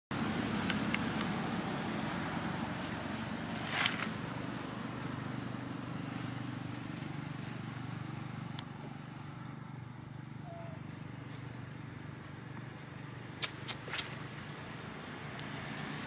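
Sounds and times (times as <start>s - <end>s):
insect drone: 0.1s - 16.0s
rustle: 0.2s - 16.0s.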